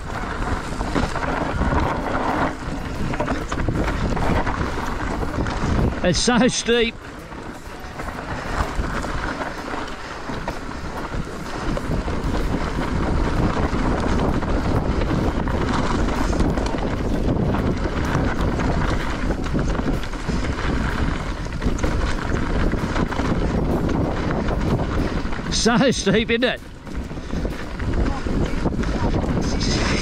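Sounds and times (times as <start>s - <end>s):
bike clicks and rattles: 0.0s - 30.0s
tyres rolling on dirt: 0.0s - 30.0s
wind rushing over microphone: 0.0s - 30.0s.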